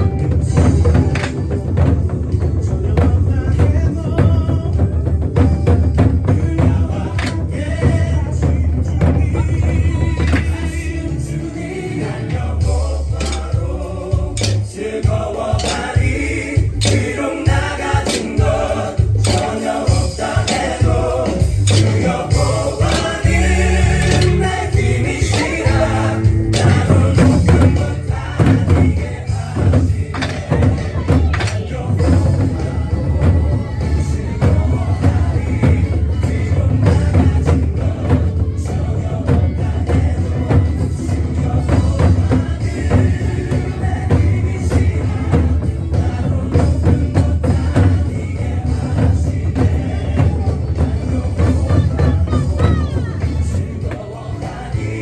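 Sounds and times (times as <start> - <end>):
sharp percussion strikes: 0.0 - 11.0, 12.6 - 55.0
choir singing worship song: 0.0 - 55.0
full band with steady beat: 0.0 - 55.0
steady bass: 0.0 - 55.0.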